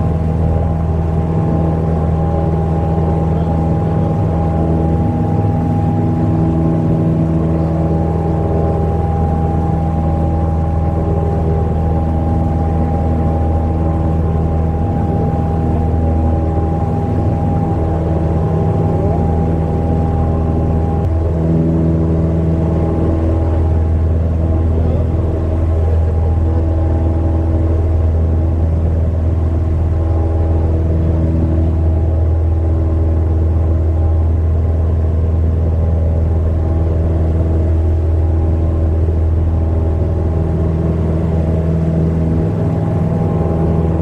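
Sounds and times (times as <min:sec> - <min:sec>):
light aircraft engine drone: 0:00.0 - 0:44.0.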